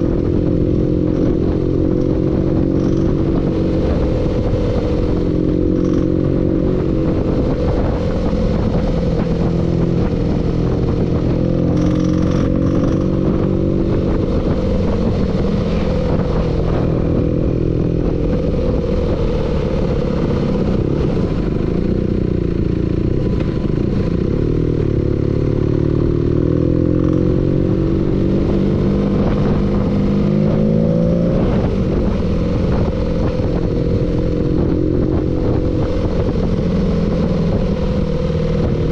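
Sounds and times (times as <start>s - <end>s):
engine running with a knock: 0.0s - 38.9s.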